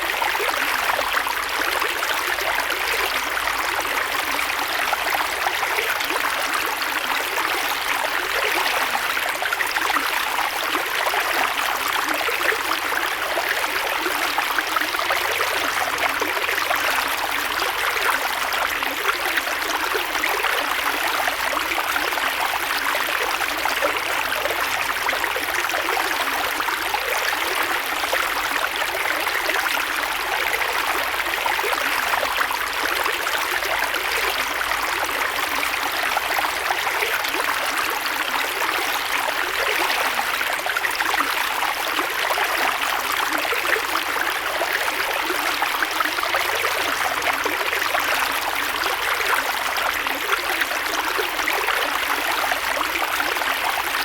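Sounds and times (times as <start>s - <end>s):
creek water flowing over stones: 0.0s - 54.0s.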